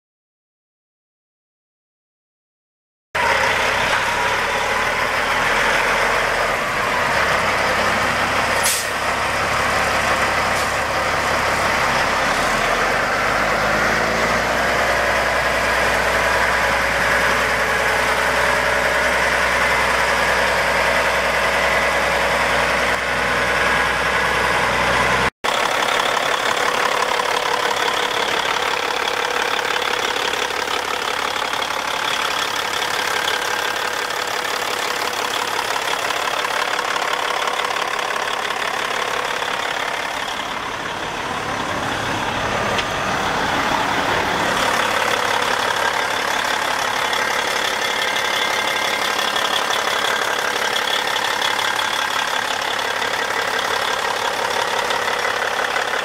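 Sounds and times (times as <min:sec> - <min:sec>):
diesel engine idling with clatter: 0:03.2 - 0:56.0
diesel truck driving past: 0:03.2 - 0:56.0.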